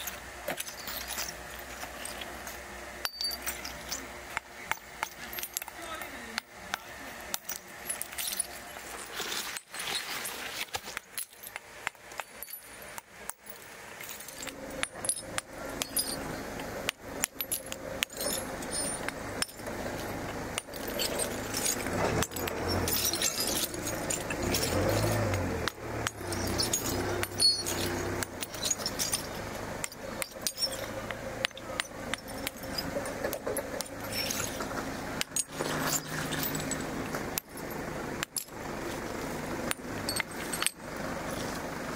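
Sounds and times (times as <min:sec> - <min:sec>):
steel parts clinking: 0:00.0 - 0:41.7
low machine hum: 0:00.0 - 0:41.9.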